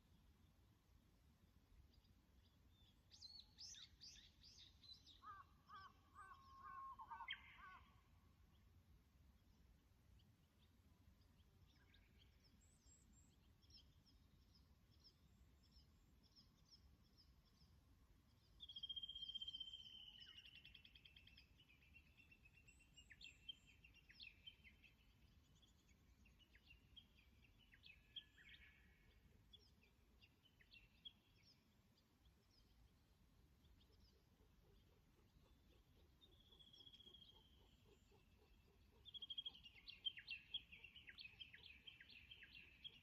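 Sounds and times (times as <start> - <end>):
wild birds singing: 1.8 - 43.0.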